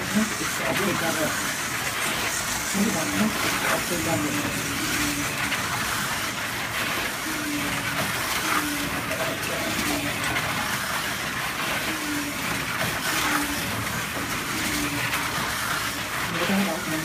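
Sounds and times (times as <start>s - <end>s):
slot cars whirring on track: 0.0s - 17.0s.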